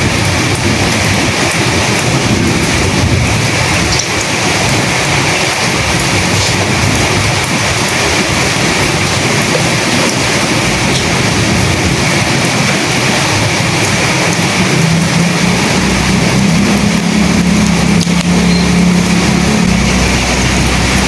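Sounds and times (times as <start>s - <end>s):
heavy rain: 0.0s - 21.0s
low rumble: 0.0s - 21.0s
wind: 0.0s - 21.0s.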